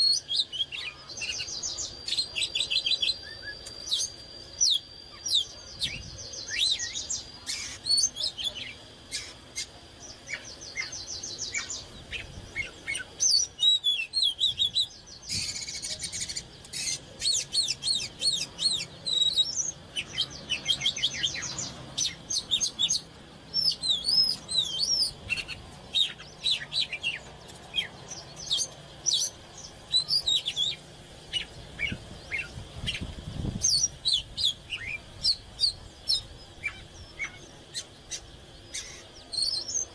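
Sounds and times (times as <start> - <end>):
bird rattling trills: 0.0 - 39.9
bird singing whistled song: 0.0 - 39.9.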